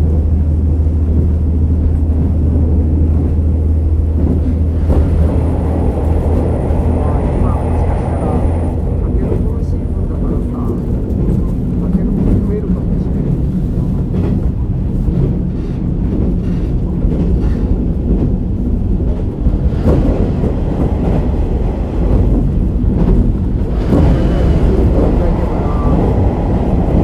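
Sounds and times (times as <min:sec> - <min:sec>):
railcar engine and wheels rumbling: 0:00.0 - 0:27.0.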